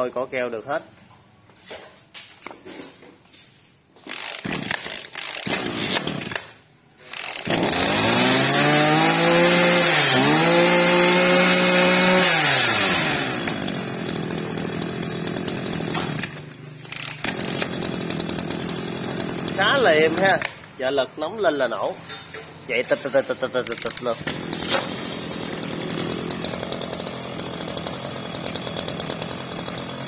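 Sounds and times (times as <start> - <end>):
recoil starter pulls: 4.0 - 30.0
brush cutter engine revving and idling: 4.1 - 21.4, 22.7 - 30.0.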